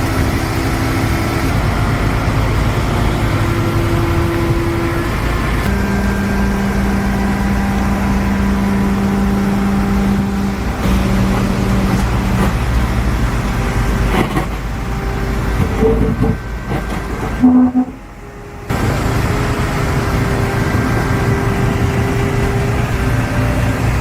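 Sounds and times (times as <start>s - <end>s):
excavator engine running: 0.0s - 24.0s
steady hum: 0.0s - 24.0s.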